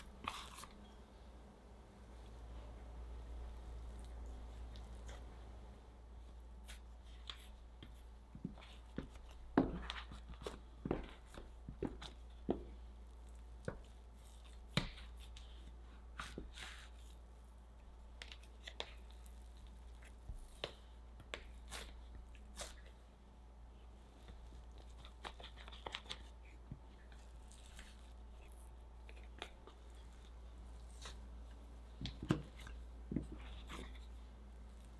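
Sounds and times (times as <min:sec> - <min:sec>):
dough squishing: 0:00.0 - 0:34.9
faint low hum: 0:00.0 - 0:34.9.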